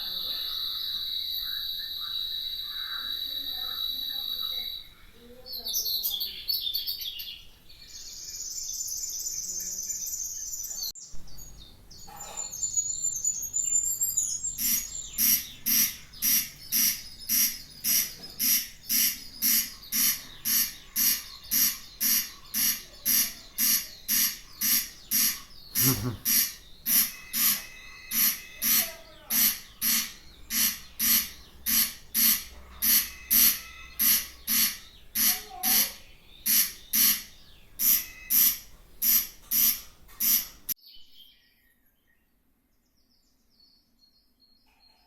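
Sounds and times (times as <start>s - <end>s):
loud repeated bird call: 0.0s - 7.4s, 12.1s - 40.8s
birds calling: 0.0s - 40.8s.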